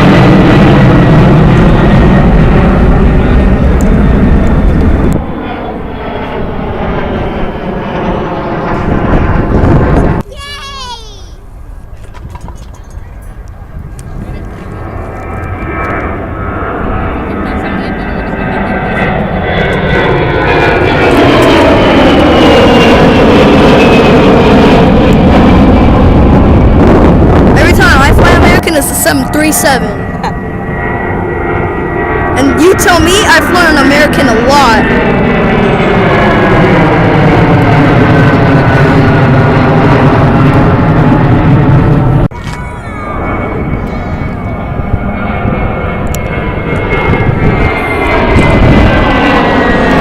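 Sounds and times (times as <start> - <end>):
jet engine whine: 0.0 - 50.0
jet engines rumbling: 0.0 - 50.0.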